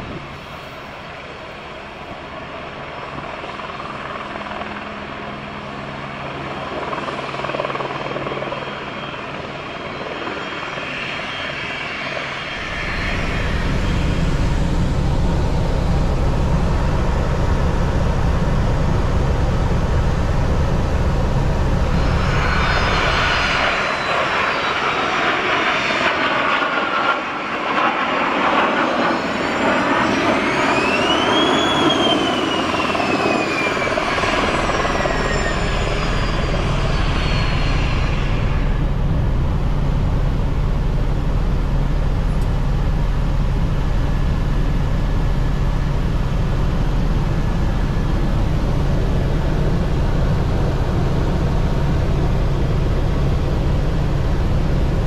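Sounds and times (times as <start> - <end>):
helicopter turbine and rotor: 0.0 - 55.0
turbine whine rising: 9.6 - 55.0.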